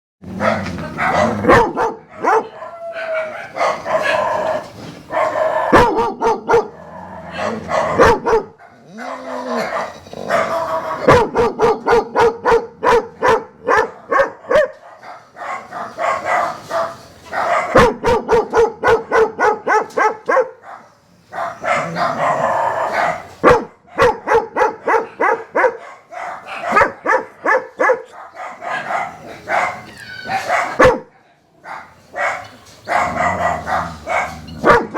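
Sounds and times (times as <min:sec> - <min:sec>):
dog barking: 0:00.4 - 0:34.9.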